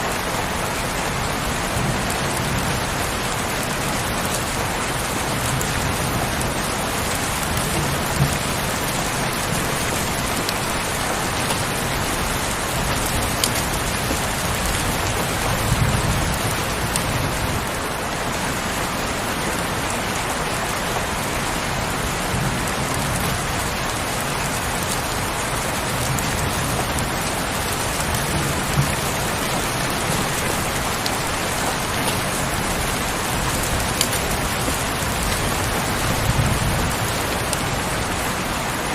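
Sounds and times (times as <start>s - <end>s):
heavy rain: 0.0s - 38.9s
raindrops tapping: 0.1s - 38.9s.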